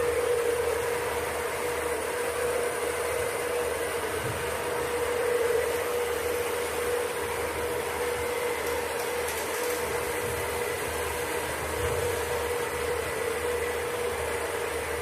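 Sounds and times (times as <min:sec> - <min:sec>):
small fans whirring: 0:00.0 - 0:15.0.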